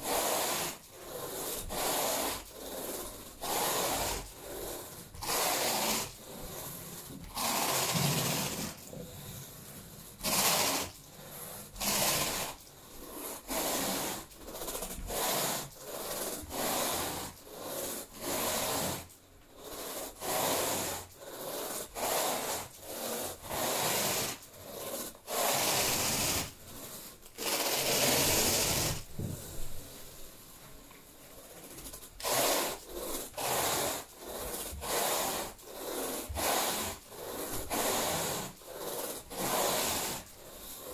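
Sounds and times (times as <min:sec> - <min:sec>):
rake rasping through carpet: 0:00.0 - 0:40.9.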